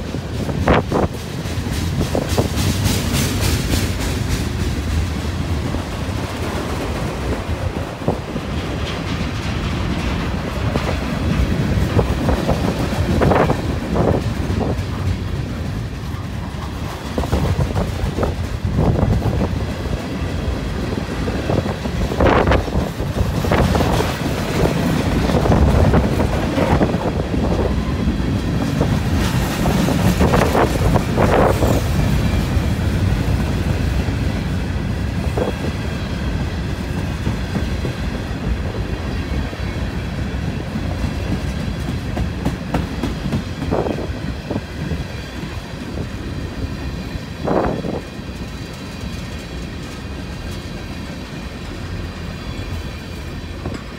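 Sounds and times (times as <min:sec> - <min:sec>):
freight train wheels rumbling: 0:00.0 - 0:53.9
wheels clickety-clack over rail joints: 0:00.0 - 0:53.9.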